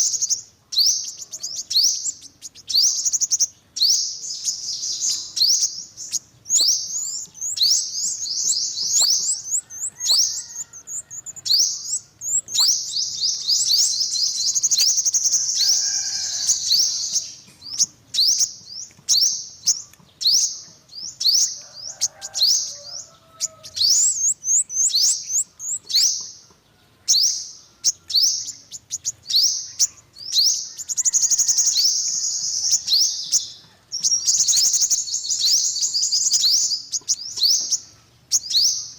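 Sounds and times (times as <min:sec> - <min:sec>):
bird singing high thin chirps: 0:00.0 - 0:38.9.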